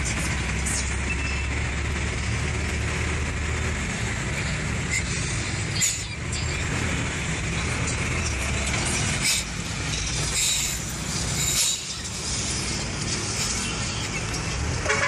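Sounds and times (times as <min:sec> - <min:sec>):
engine rumble and road noise: 0:00.0 - 0:15.0.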